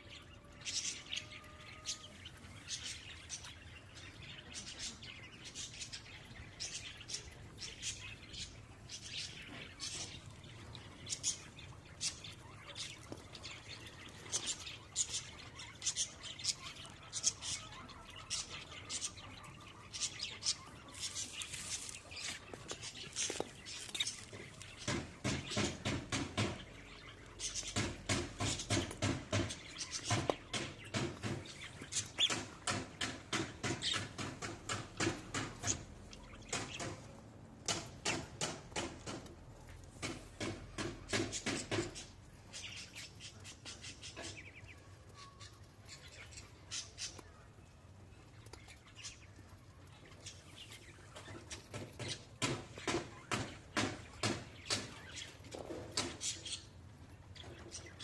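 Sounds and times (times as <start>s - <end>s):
birds calling and chirping: 0.0s - 58.0s.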